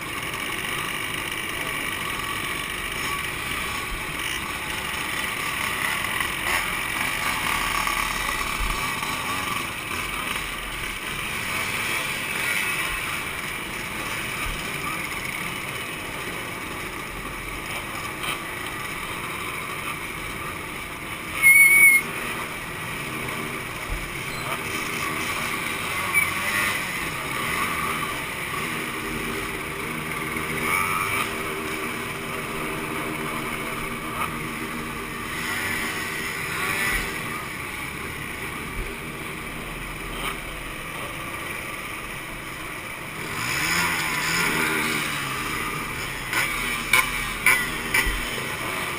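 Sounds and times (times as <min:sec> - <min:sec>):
two-stroke motorcycle engines: 0:00.0 - 0:48.9.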